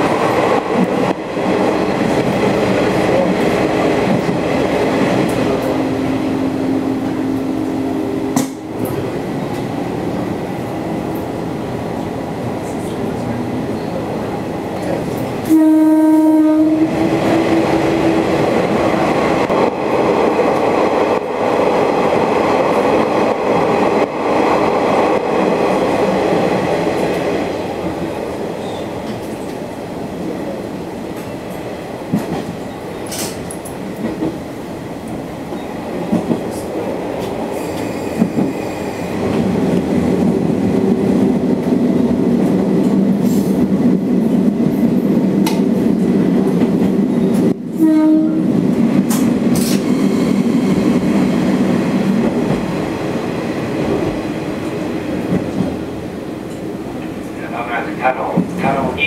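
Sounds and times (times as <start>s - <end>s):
railcar wheels and engine rumble: 0.0s - 59.0s.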